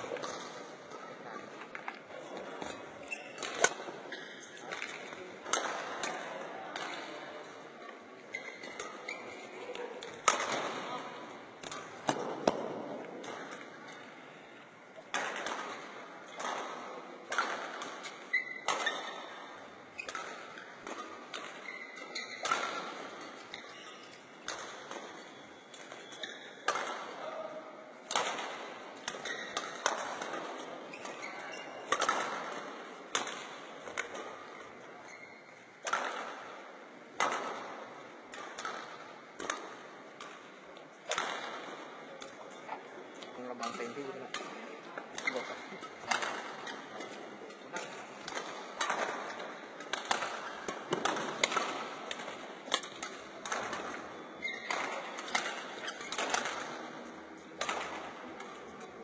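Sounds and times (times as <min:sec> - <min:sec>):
rackets hitting shuttlecock: 0:00.0 - 0:59.0.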